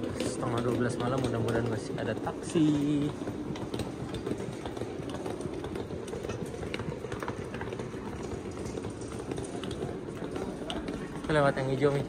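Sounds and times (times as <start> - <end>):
footsteps: 0.0 - 12.0
rolling luggage wheels: 0.0 - 12.0.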